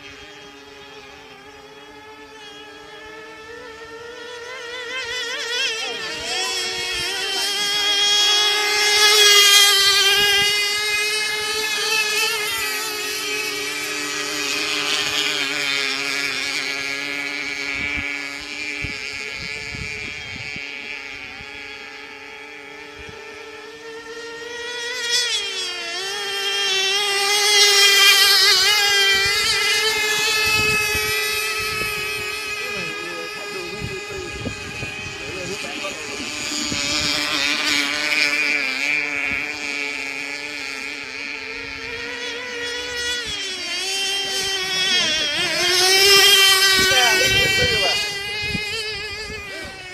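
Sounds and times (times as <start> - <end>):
model boat engines whining: 0.0 - 49.9.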